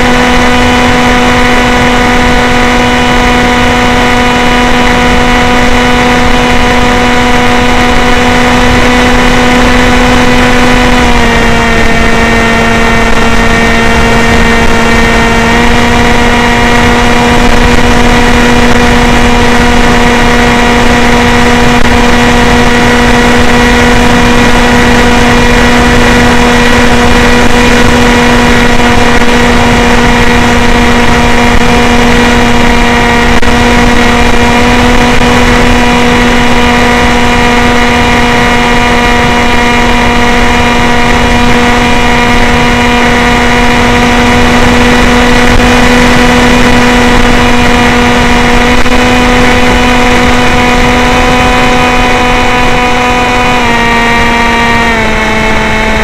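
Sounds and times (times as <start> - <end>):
electric motor propeller hum: 0.0 - 56.0.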